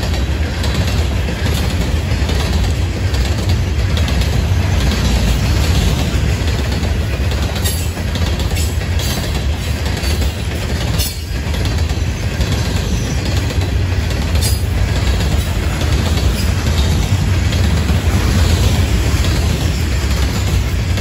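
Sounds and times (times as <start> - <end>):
freight train wheels rumbling on rail: 0.0 - 21.0
sharp clacks: 0.0 - 21.0.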